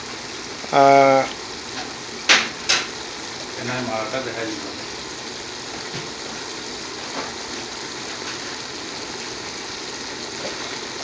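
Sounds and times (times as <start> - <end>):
pot simmering with hiss: 0.0 - 11.0.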